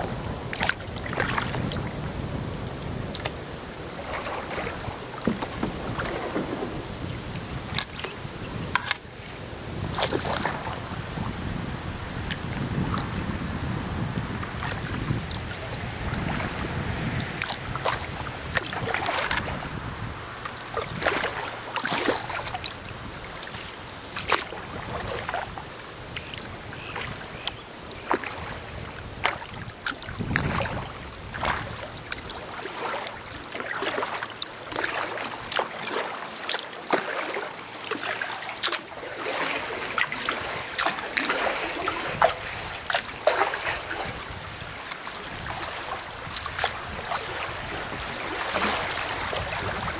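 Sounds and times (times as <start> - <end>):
river water splashing and gurgling: 0.0 - 49.9.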